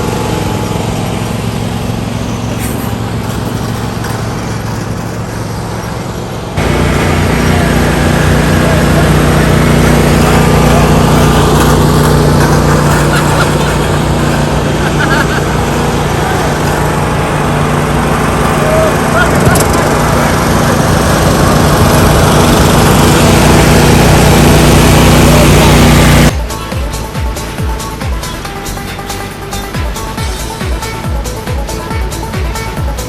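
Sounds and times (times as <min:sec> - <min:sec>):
riding lawn mower engine: 0:00.0 - 0:33.0.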